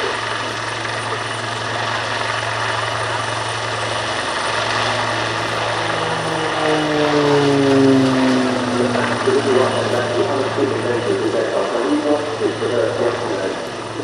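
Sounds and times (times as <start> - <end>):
aircraft engine hum: 0.0 - 14.0.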